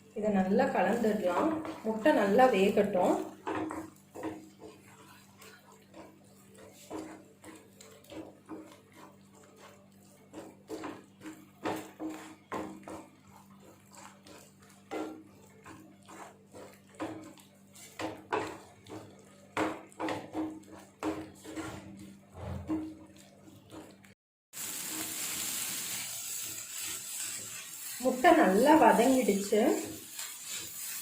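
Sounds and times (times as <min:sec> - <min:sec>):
metal spatula scraping a pan: 0:00.7 - 0:24.0, 0:26.2 - 0:31.0.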